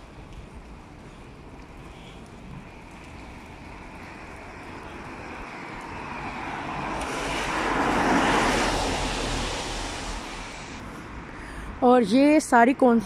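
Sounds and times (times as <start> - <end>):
vehicle tyres hissing on wet road: 0.0 - 11.3.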